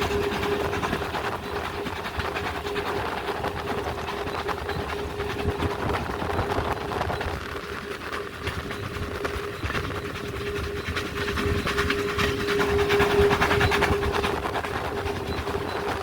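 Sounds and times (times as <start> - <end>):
steady hum: 0.0 - 16.0
steam train rumbling: 0.0 - 16.0.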